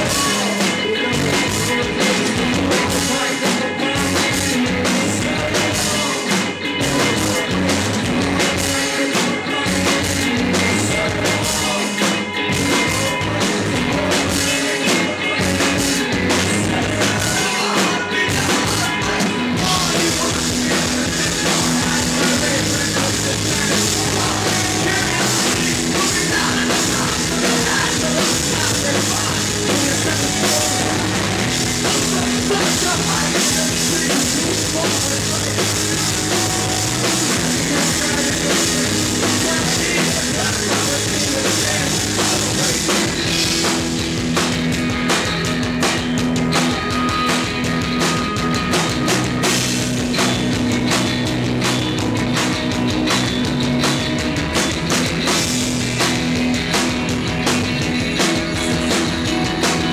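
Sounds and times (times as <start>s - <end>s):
rock band playing loudly: 0.0s - 59.9s.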